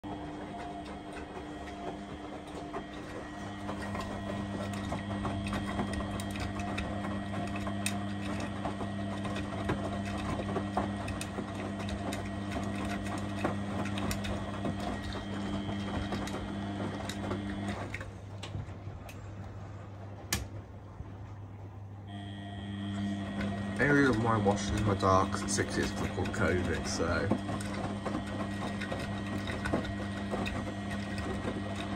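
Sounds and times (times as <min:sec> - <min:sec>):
small clicks and rattles: 0:00.0 - 0:20.8, 0:22.2 - 0:31.9
washing machine motor hum: 0:00.0 - 0:31.9.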